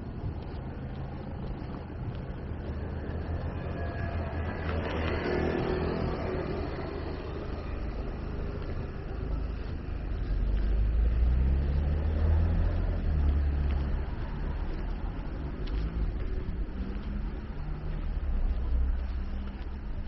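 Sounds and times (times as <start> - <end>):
street traffic hum: 0.0 - 20.0.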